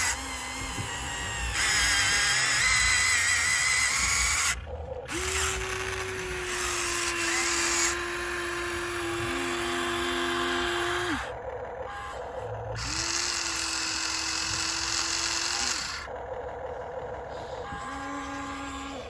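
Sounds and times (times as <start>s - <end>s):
small electric motors whining: 0.0s - 16.2s, 17.3s - 19.0s.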